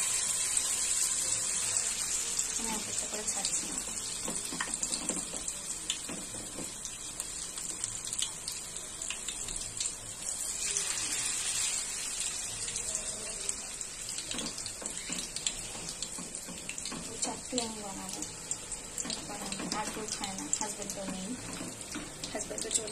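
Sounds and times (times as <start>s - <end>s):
food deep-frying in hot oil: 0.0s - 22.9s.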